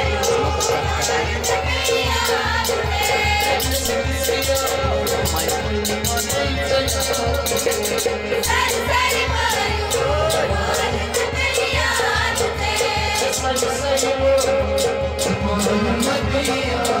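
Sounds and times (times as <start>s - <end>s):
quick percussion beat: 0.0s - 17.0s.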